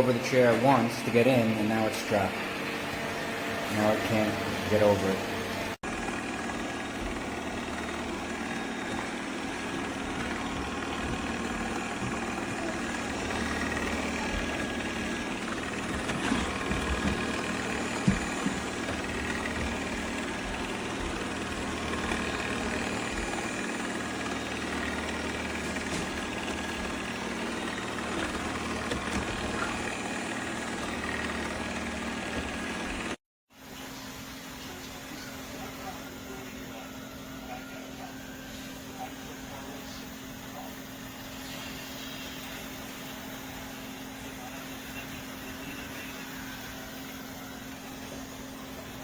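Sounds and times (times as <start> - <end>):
robot vacuum motor hum: 0.0 - 33.2, 33.8 - 49.0.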